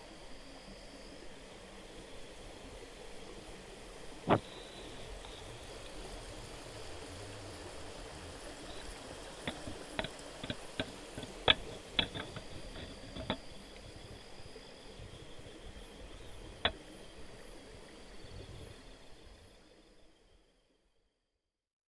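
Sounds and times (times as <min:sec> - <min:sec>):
steady hiss: 0:00.0 - 0:20.4.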